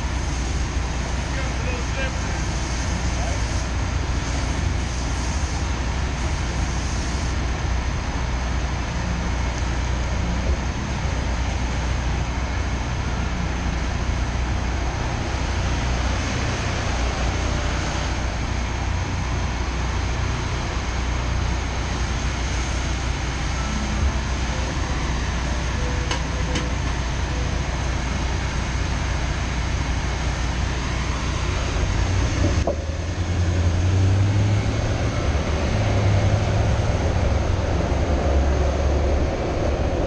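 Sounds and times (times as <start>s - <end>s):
bus driving past: 0.0s - 40.0s
low rumble of city traffic: 0.0s - 40.0s.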